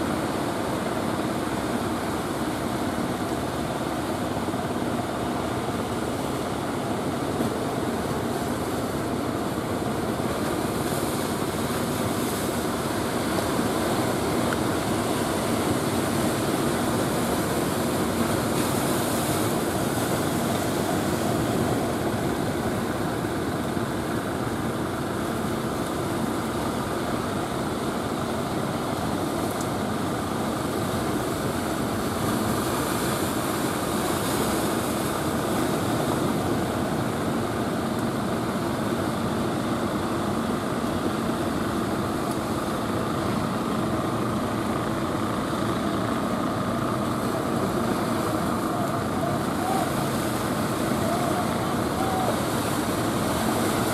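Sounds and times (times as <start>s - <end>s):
boat engine running: 0.0s - 53.9s
waves breaking: 0.0s - 53.9s.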